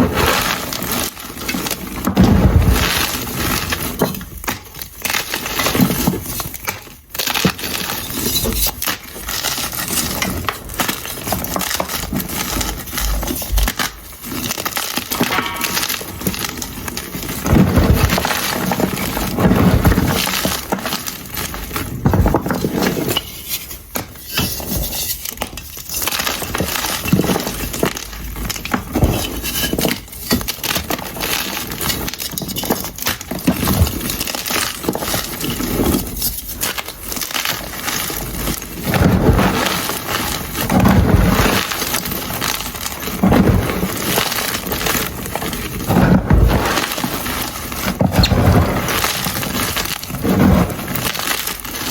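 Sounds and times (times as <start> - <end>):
chalk blocks crackling and crunching: 0.1 - 51.9.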